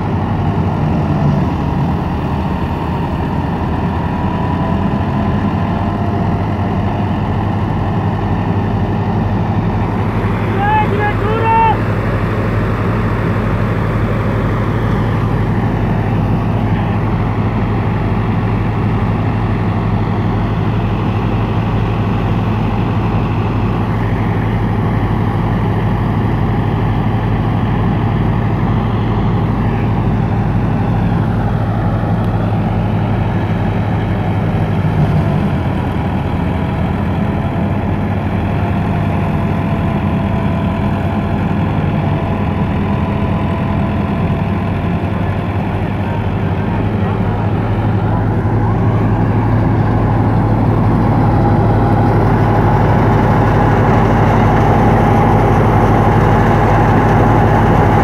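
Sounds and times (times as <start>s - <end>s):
thresher churning drone: 0.0s - 58.0s
tractor diesel engine running: 0.0s - 58.0s.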